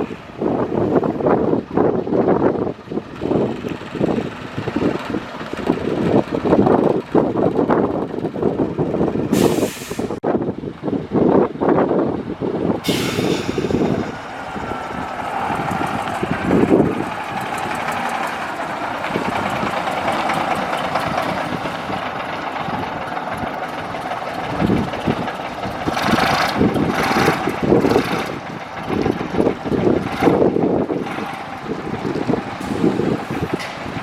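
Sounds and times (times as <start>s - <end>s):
bus engine running: 0.0s - 34.0s.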